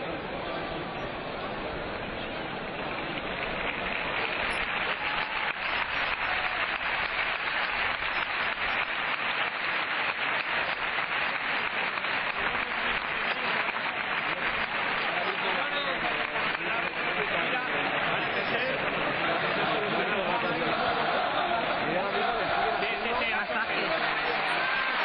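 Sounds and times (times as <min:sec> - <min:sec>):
crowd clapping: 0:02.7 - 0:25.0.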